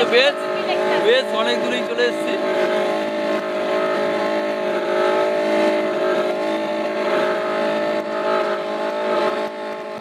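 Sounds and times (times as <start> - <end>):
speedboat engine running: 0.0 - 10.0.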